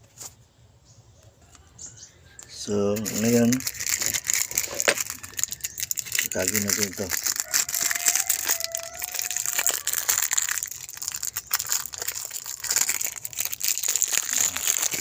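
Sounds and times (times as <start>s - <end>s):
electrical tape crinkling tear: 2.8s - 15.0s.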